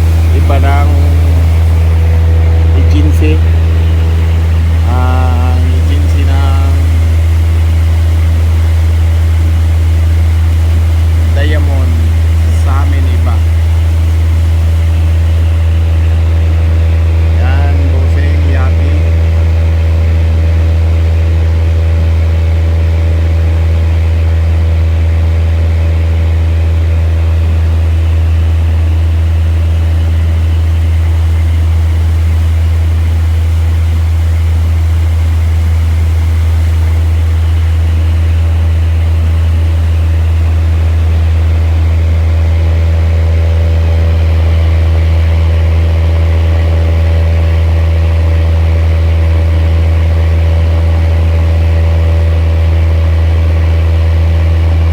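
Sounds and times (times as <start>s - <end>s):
boat diesel engine droning: 0.0s - 54.9s.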